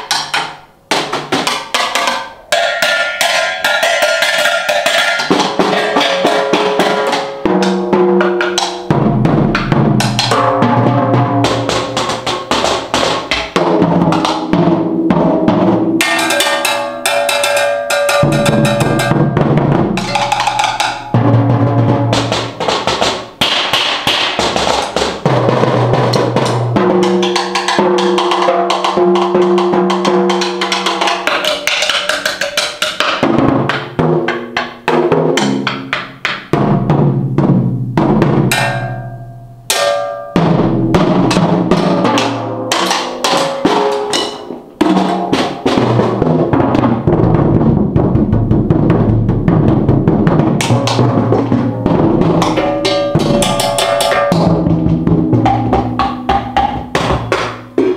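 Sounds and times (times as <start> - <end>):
drum kit solo: 0.0 - 57.9.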